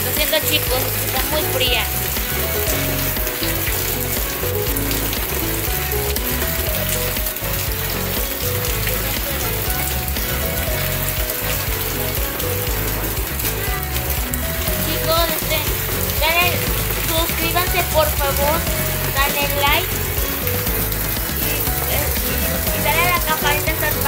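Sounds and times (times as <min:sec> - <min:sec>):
heavy rain splashing: 0:00.0 - 0:24.0.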